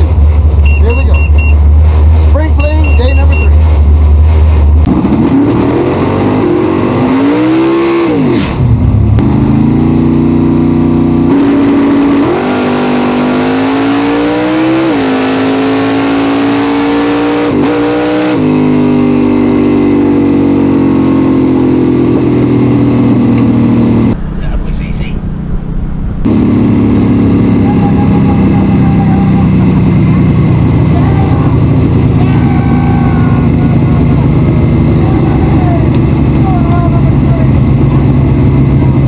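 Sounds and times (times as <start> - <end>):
drag car engine at full throttle: 0.0 - 39.0.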